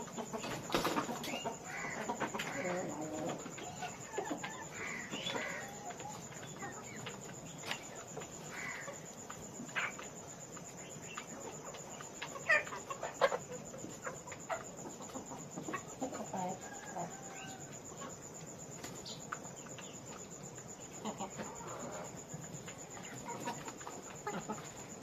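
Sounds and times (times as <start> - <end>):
chickens clucking and calling: 0.0 - 25.0.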